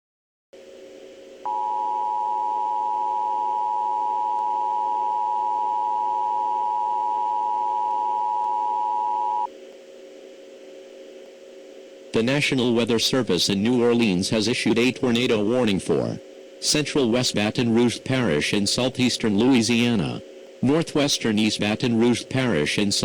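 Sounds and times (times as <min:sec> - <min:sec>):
faint background hum: 0:00.6 - 0:23.0.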